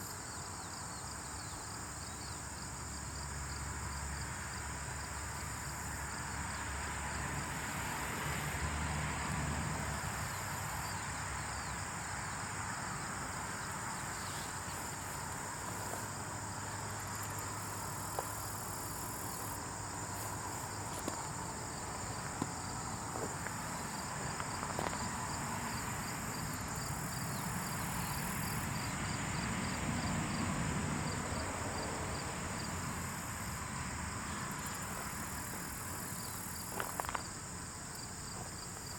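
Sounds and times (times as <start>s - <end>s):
cricket-like chirps: 0.0s - 7.3s, 9.2s - 38.9s
high-pitched insect chorus: 0.0s - 38.9s.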